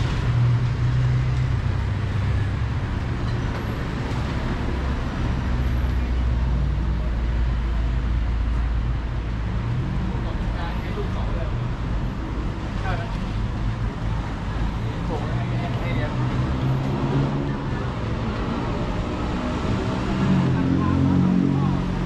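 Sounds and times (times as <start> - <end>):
street noise: 0.0 - 22.0.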